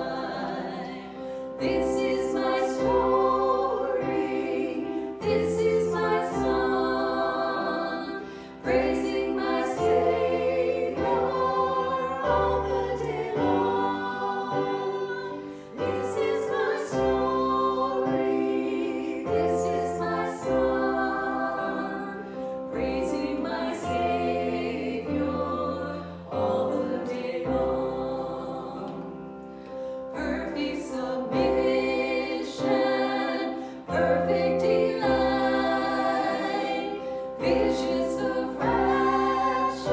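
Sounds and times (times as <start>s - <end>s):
choir singing slow chords: 0.0s - 39.9s.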